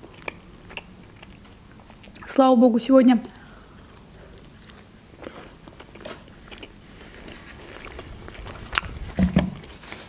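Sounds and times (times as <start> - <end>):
close chewing with crisp crunches: 0.0 - 2.4, 3.0 - 10.0.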